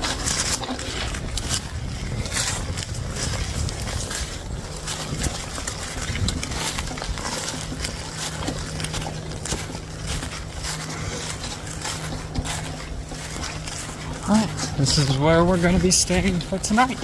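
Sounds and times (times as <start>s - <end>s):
footsteps crunching through dry leaves: 0.0s - 17.0s
steady low hum: 0.0s - 17.0s.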